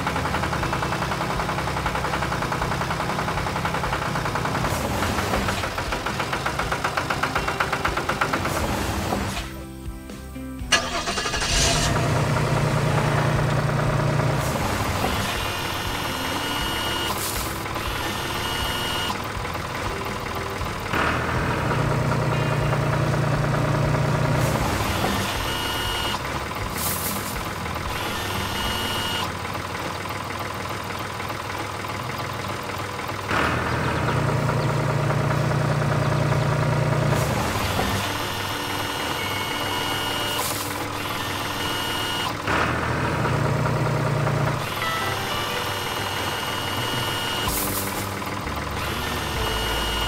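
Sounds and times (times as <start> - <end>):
cartoon tractor engine: 0.0 - 50.0
low engine hum: 0.0 - 50.0.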